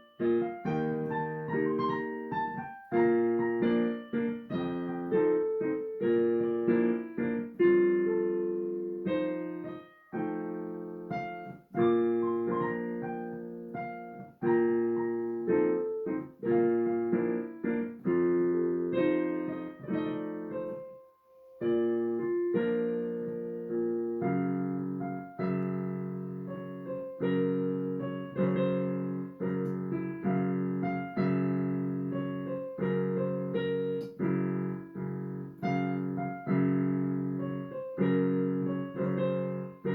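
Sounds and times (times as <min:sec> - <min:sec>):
slow solo piano chords: 0:00.0 - 0:39.9.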